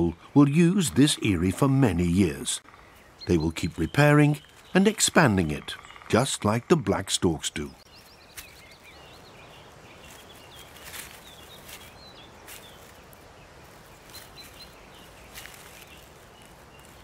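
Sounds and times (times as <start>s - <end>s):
faint forest ambience: 0.0s - 17.0s.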